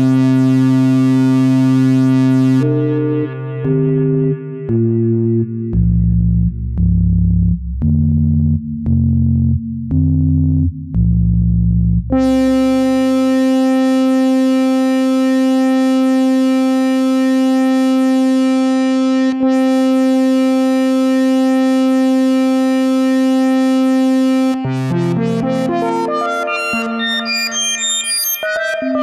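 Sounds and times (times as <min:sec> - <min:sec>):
low bass synth notes: 0:00.0 - 0:29.0.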